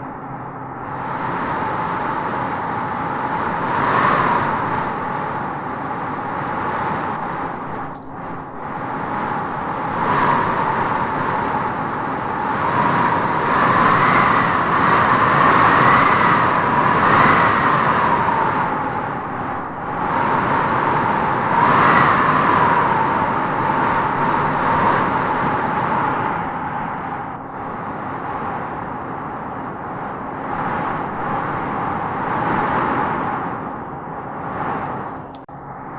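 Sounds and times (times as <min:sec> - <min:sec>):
wind howling: 0:00.0 - 0:35.9.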